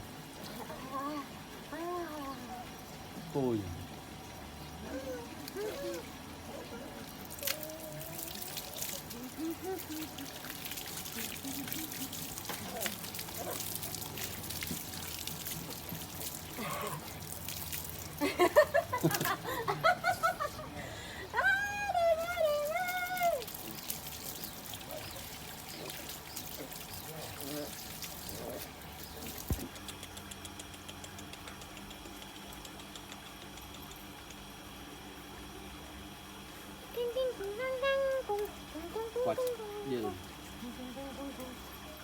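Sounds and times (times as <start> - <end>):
water pouring and trickling: 0.0 - 30.2, 33.8 - 42.0
small motor humming: 4.8 - 42.0.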